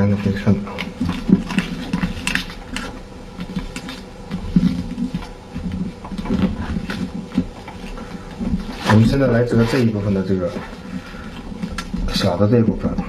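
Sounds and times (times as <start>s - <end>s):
paper rustling and crinkling: 0.1s - 13.0s.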